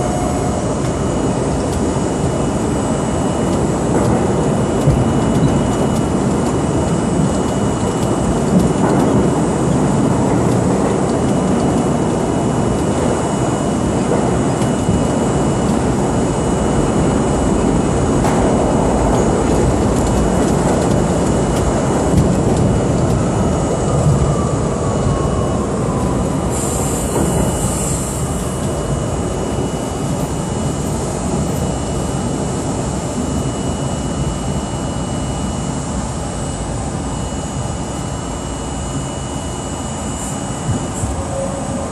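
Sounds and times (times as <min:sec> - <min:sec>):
falling whine: 0:00.0 - 0:41.9
subway train rumble and wheel noise: 0:00.0 - 0:41.9.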